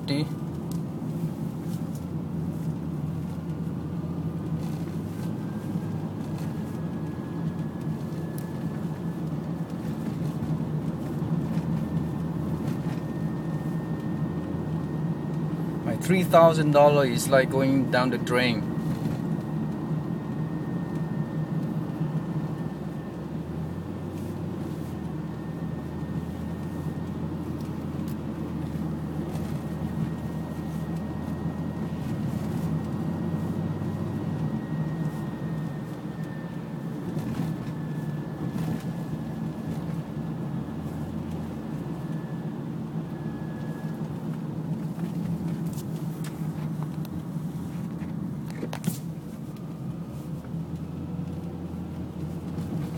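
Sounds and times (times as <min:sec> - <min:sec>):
low drone in car cabin: 0:00.0 - 0:52.9.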